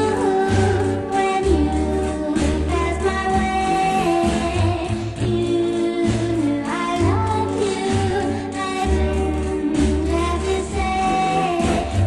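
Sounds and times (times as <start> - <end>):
band playing pop music: 0.0 - 12.0
woman singing: 0.0 - 12.0.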